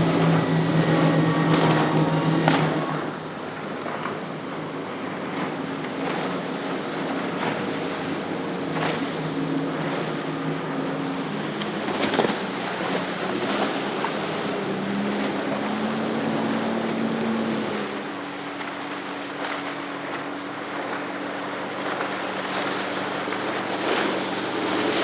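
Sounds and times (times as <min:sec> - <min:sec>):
motorboat engines droning: 0:00.0 - 0:25.0
waves washing: 0:00.0 - 0:25.0
wind: 0:00.0 - 0:25.0.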